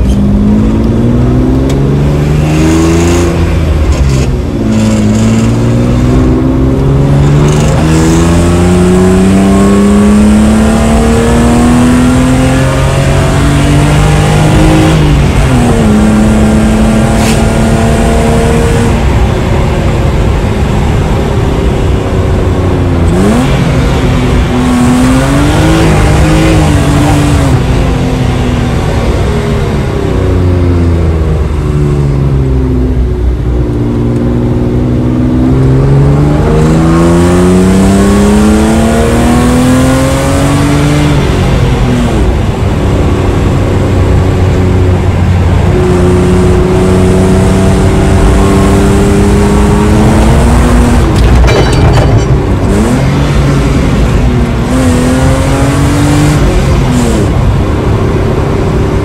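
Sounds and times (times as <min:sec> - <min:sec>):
car engine revving: 0:00.0 - 0:59.0
tyre and road noise: 0:00.0 - 0:59.0.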